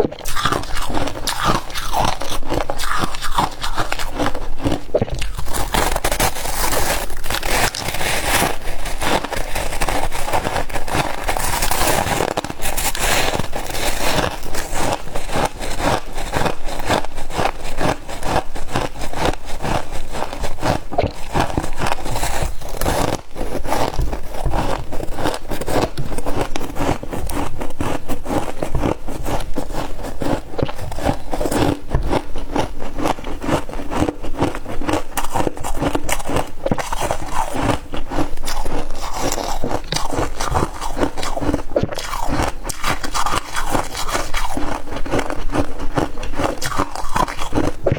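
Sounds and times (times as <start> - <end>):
person chewing crunchy ice: 0.0 - 47.9.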